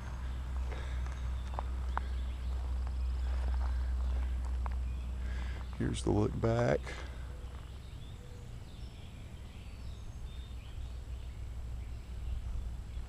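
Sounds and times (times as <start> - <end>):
faint bird calls: 0.0 - 13.0
low outdoor rumble: 0.0 - 13.0.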